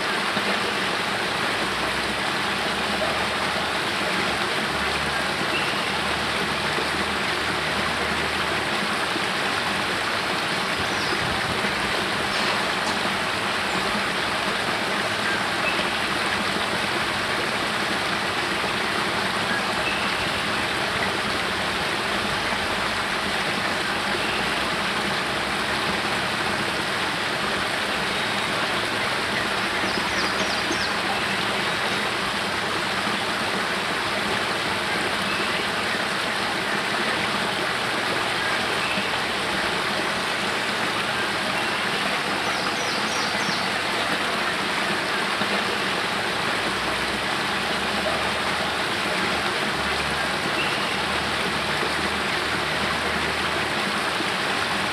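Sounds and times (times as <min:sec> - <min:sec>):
waterfall splashing over rocks: 0:00.0 - 0:54.9.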